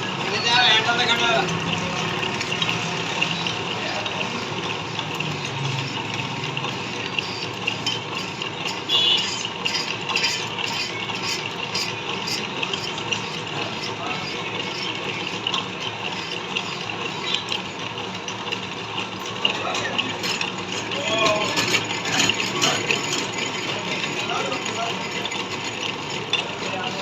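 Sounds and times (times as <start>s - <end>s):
metal lathe cutting metal: 0.0s - 27.0s.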